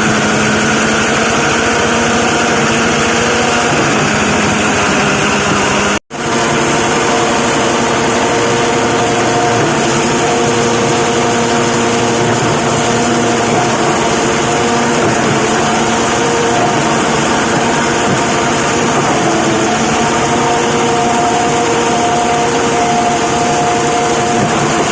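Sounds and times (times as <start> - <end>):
plastic crusher machine humming: 0.0 - 24.9.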